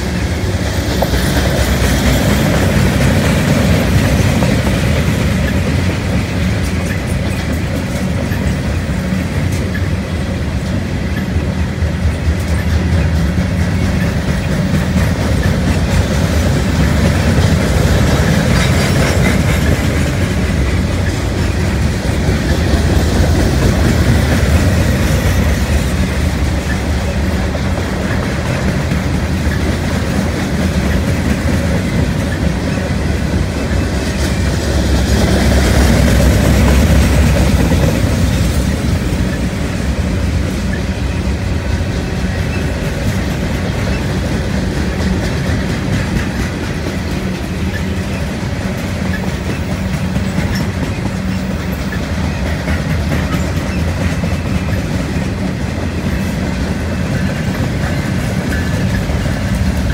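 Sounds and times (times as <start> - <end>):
freight cars rolling on rails: 0.0 - 59.9.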